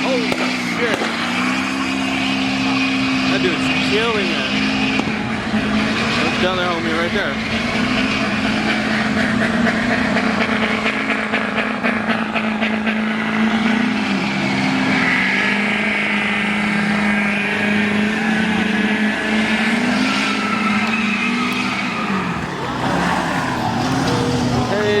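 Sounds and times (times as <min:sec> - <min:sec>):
car engine revving high: 0:00.0 - 0:25.0.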